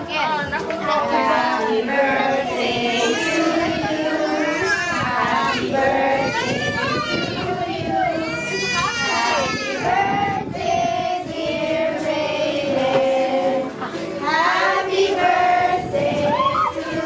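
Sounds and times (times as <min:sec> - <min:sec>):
children and women singing: 0:00.5 - 0:17.0.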